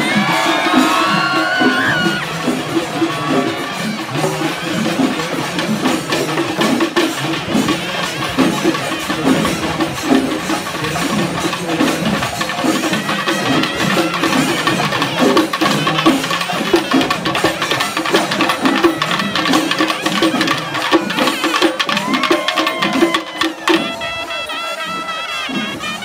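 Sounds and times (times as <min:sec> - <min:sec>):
drums played fast: 0:00.0 - 0:26.0
wind instrument bending notes: 0:00.0 - 0:26.0.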